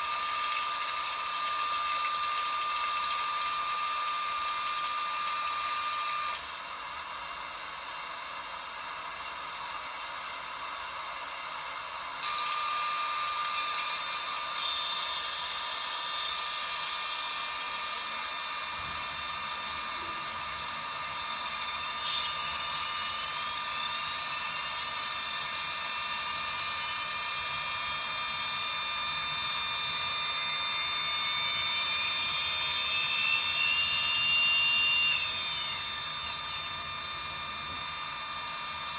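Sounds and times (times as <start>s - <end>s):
washing machine motor whining: 0.0s - 7.0s, 11.7s - 38.9s.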